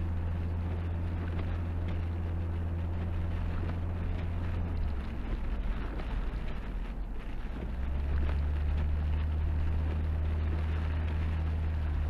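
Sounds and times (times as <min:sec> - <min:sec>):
car engine and tyres droning: 0:00.0 - 0:12.0.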